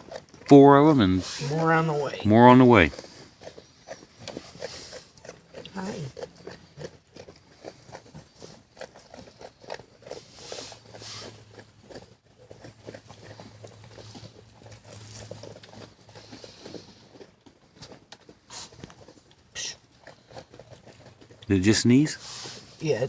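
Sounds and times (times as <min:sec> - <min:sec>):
goats rustling and tapping: 0:00.0 - 0:23.0.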